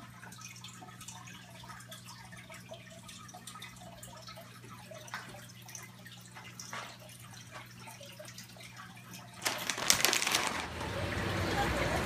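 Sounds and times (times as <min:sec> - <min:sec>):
aquarium water trickling: 0:00.0 - 0:12.0
low electrical hum: 0:00.0 - 0:12.0.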